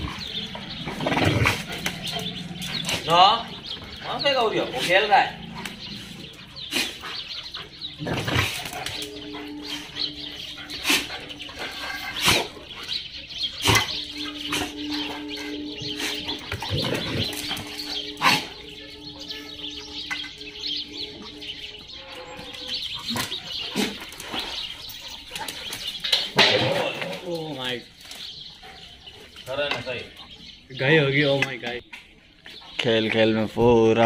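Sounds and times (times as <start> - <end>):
dogs scuffling on tiles: 0.0 - 30.6
birds chirping: 0.0 - 34.0.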